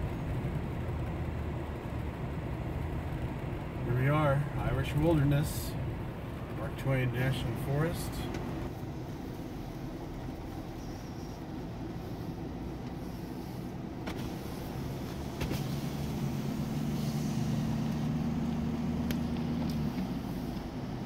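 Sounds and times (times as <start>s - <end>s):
car engine hum: 0.0s - 21.0s.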